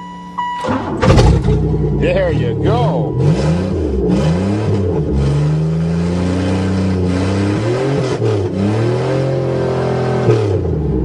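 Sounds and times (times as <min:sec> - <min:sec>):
car engine revving: 0:00.6 - 0:11.0.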